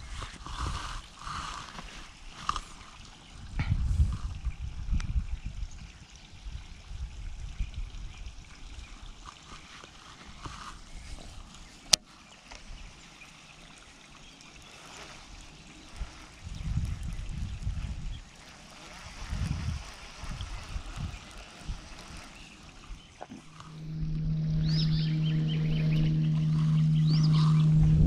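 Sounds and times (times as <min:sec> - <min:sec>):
wind buffeting microphone: 0:00.0 - 0:09.7, 0:14.6 - 0:28.0.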